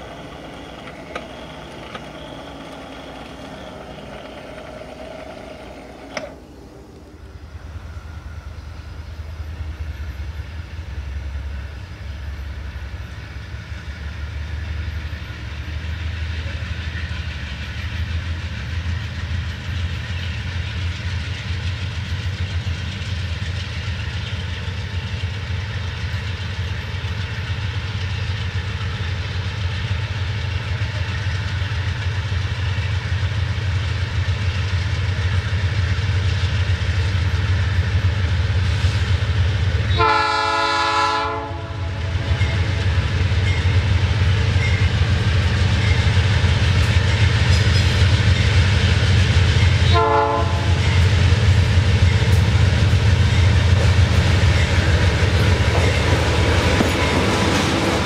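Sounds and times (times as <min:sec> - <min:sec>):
diesel locomotive engine rumble: 0:00.0 - 0:58.0.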